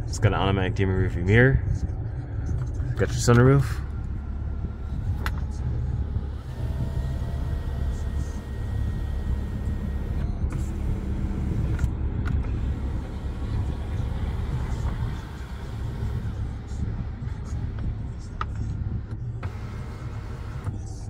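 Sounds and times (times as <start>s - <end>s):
car engine idling: 2.4s - 21.0s
sunroof motor whine: 3.0s - 20.9s.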